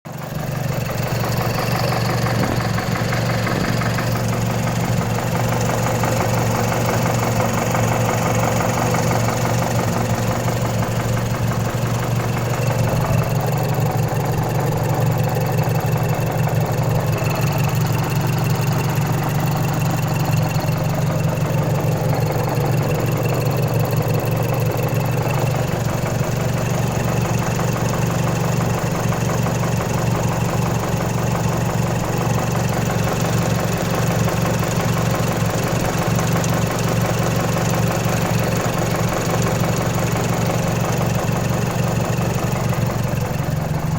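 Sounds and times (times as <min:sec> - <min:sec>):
car engine running: 0:00.1 - 0:43.9.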